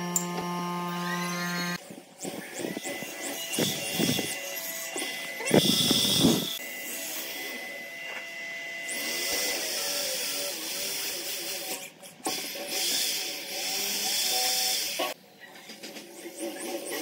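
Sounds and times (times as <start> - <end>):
electric drill boring into wood: 0.0 - 11.4, 12.3 - 15.2.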